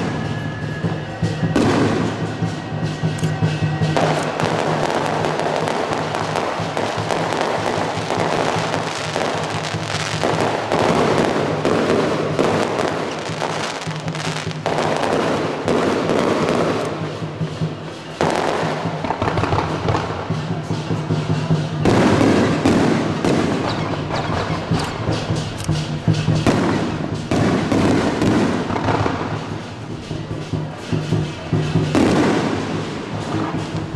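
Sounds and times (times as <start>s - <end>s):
fireworks crackling and bursting: 0.0s - 33.9s.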